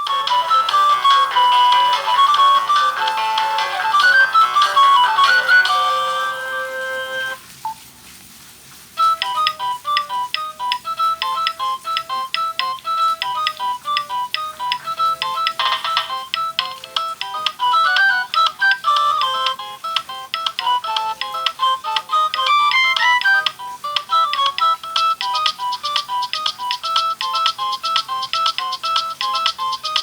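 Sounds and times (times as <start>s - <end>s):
phone ringtone melody: 0.0s - 7.8s, 9.0s - 30.0s.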